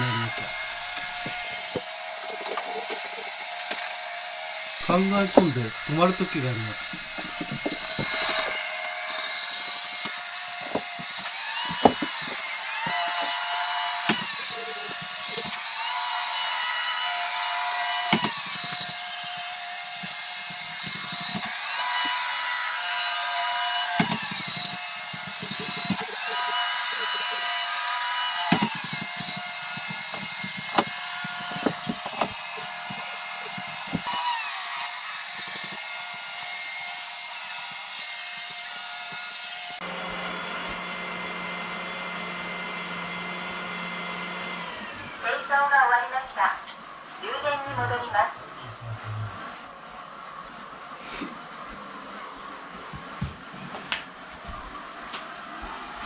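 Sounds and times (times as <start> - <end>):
robot vacuum motor whirring: 0.0 - 45.4.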